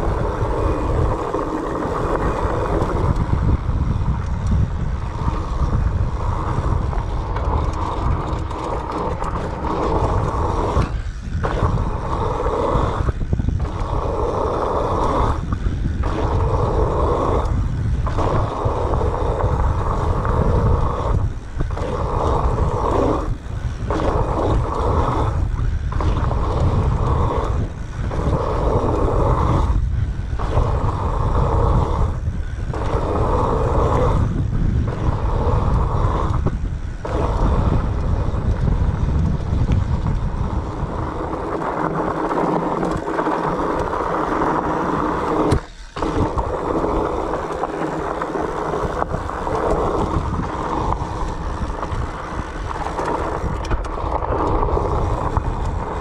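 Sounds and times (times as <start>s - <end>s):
bike tyres rumbling on dirt: 0.0s - 56.0s
wind buffeting microphone: 0.0s - 56.0s.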